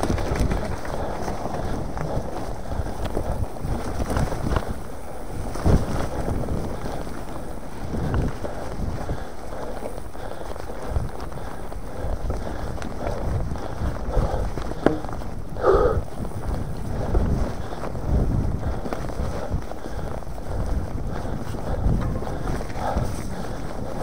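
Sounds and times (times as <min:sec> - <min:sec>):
bike frame rattle: 0:00.0 - 0:15.4, 0:16.2 - 0:24.0
bike tyres rumbling: 0:00.0 - 0:24.0
wind buffeting microphone: 0:00.0 - 0:24.0.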